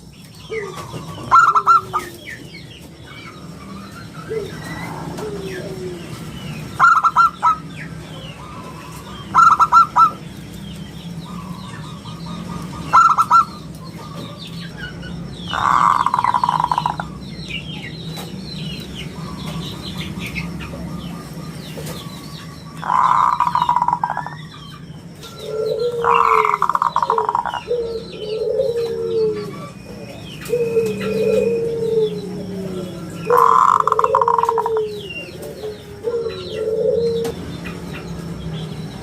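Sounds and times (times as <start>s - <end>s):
small birds chirping: 0.0s - 39.0s
dove cooing: 0.5s - 2.5s, 3.6s - 10.2s, 11.2s - 17.3s, 19.1s - 24.6s, 25.2s - 38.2s.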